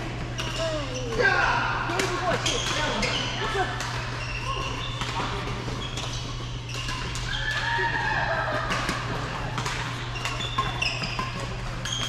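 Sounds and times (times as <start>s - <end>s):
shoes squeaking on court floor: 0.0s - 1.3s, 2.0s - 7.6s, 8.8s - 12.0s.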